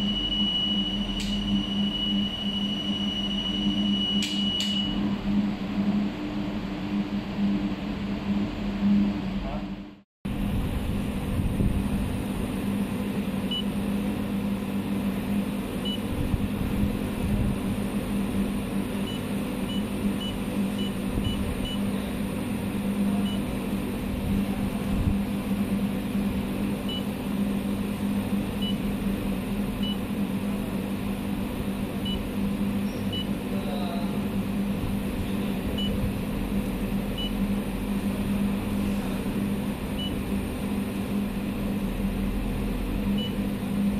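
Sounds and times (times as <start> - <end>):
inverter electrical hum: 0.0 - 43.9.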